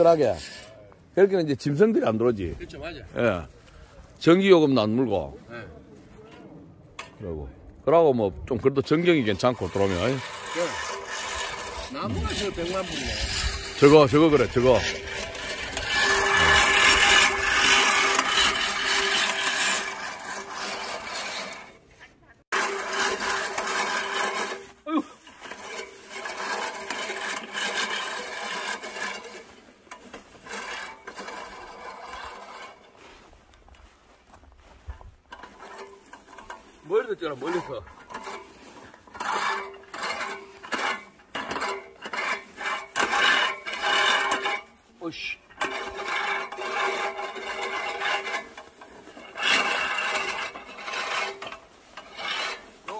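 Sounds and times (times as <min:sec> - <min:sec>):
reel mower whirring: 0:09.1 - 0:21.8, 0:22.5 - 0:34.0, 0:34.6 - 0:52.9.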